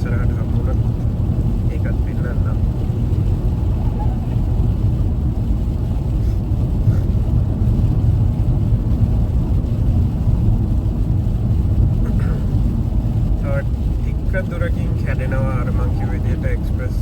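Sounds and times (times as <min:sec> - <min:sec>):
car tyres and engine rumble: 0:00.0 - 0:17.0.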